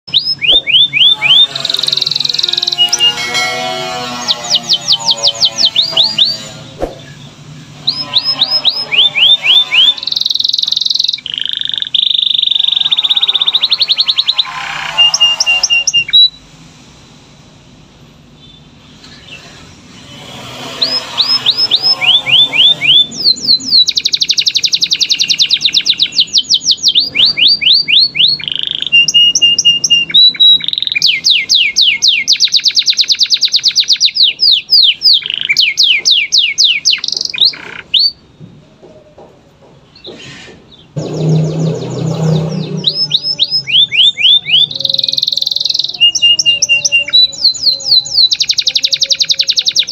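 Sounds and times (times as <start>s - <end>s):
canary singing: 0.1s - 16.5s, 18.4s - 38.3s, 39.1s - 49.9s.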